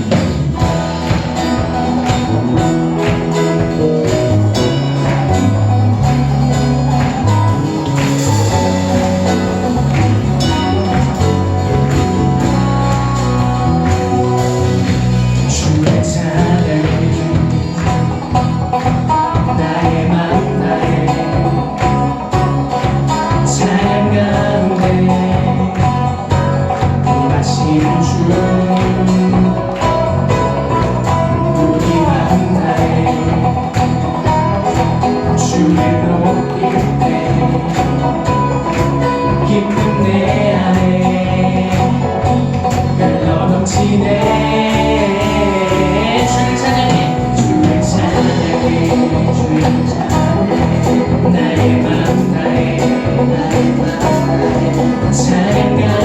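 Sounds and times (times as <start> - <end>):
band playing worship song: 0.0 - 56.0.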